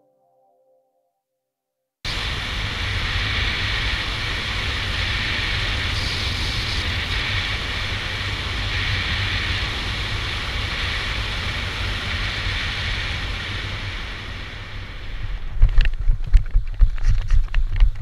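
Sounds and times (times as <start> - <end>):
wind rushing over microphone: 2.1 - 18.0.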